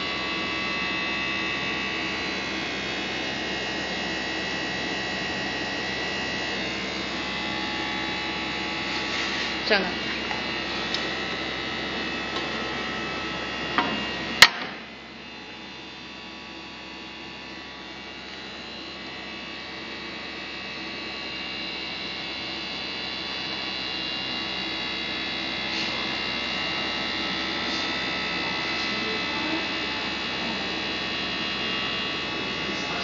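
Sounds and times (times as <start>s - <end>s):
electrical machine hum: 0.0s - 33.0s.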